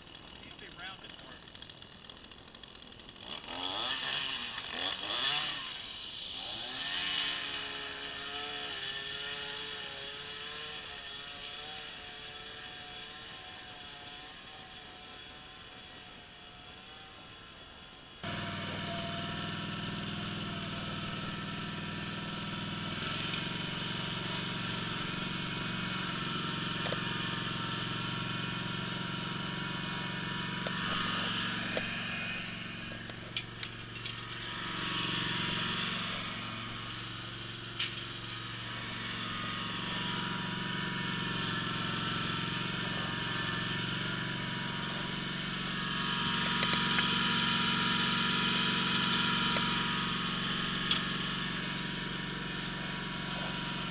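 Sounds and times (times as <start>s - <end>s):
mower engine running: 0.0s - 53.9s.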